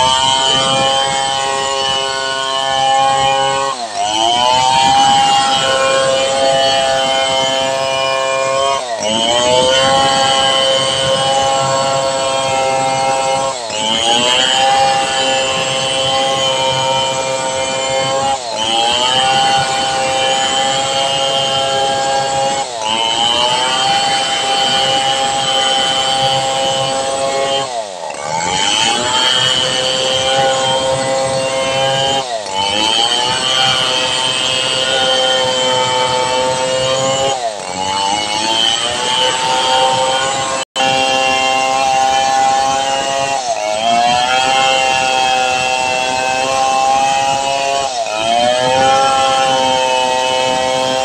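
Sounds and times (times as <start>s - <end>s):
chainsaw cutting log: 0.0s - 51.0s.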